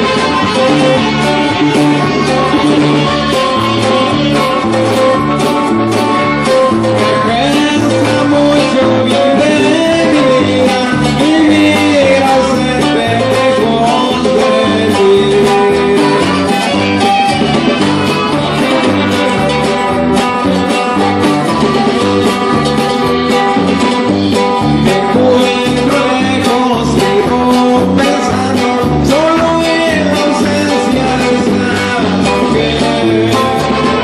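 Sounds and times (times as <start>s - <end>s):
accordion: 0.0s - 34.0s
drums: 0.0s - 34.0s
live band playing: 0.0s - 34.0s
saxophone: 0.0s - 34.0s.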